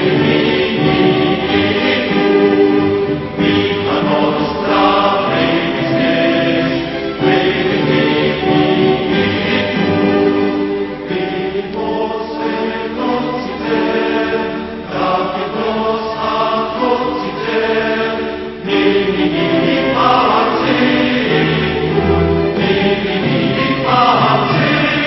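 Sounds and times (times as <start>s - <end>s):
choir singing slow chords: 0.0s - 25.0s.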